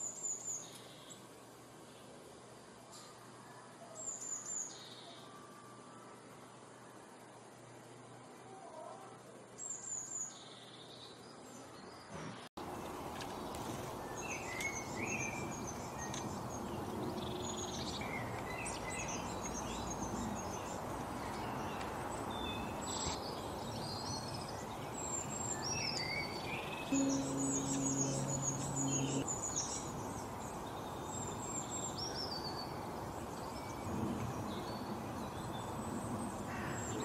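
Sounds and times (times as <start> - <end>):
outdoor hiss: 0.0 - 37.0
songbirds chirping: 0.0 - 37.0.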